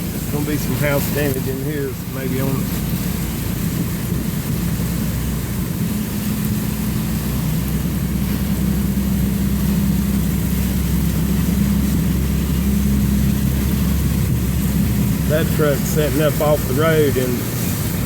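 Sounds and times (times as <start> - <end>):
car engine drone: 0.0 - 18.0
road noise hiss: 0.0 - 18.0.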